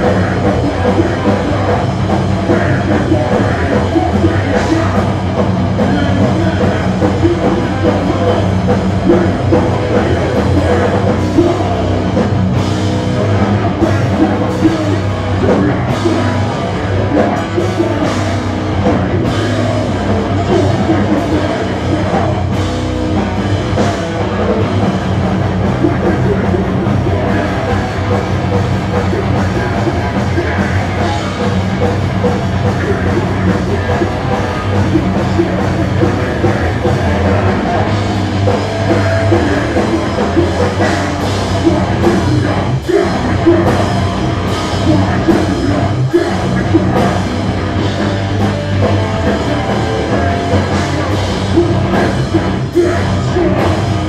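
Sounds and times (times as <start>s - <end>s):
vocalist singing into a microphone: 0.0s - 12.2s, 13.2s - 22.7s, 24.2s - 31.8s, 32.6s - 54.0s
live punk rock band: 0.0s - 54.0s.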